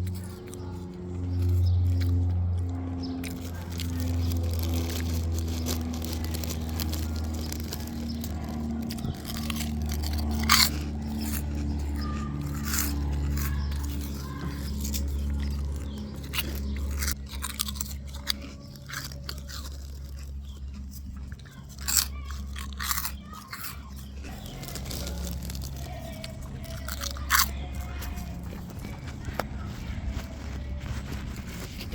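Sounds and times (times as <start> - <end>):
crisps crunching and chewing: 0.0 - 31.9
steady low hum: 0.0 - 31.9.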